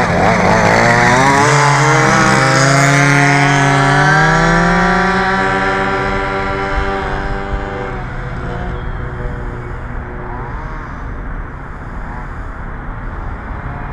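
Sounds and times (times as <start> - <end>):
small two-stroke engine revving: 0.0 - 11.2.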